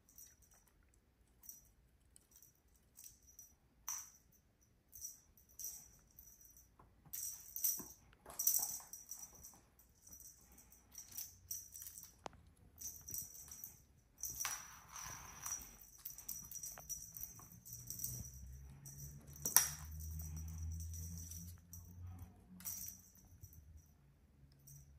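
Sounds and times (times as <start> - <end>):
toy and paws ticking on floor: 0.0 - 23.8
low hum: 0.1 - 24.9.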